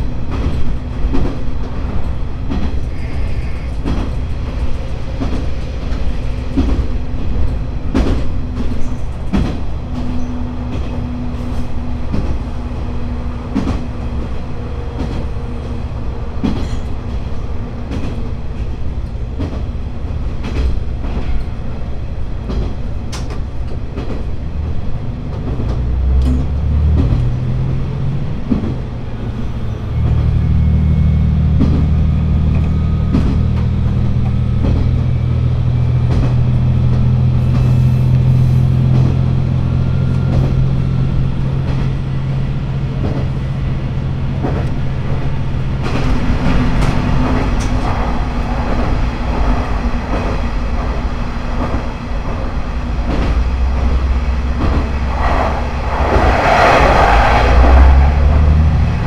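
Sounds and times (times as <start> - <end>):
diesel railcar engine: 0.0 - 59.0
train wheels rumbling: 0.0 - 59.0.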